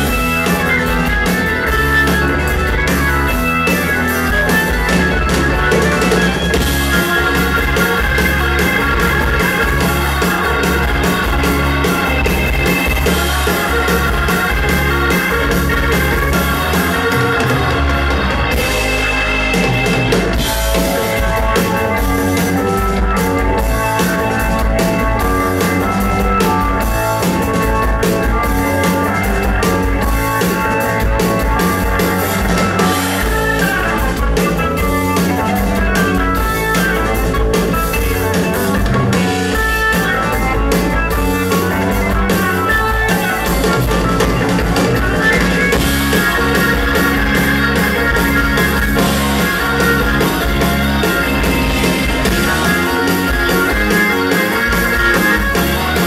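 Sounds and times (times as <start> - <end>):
drum kit: 0.0 - 56.0
guitar: 0.0 - 56.0
live rock band playing: 0.0 - 56.0
organ and keyboards: 0.0 - 56.0.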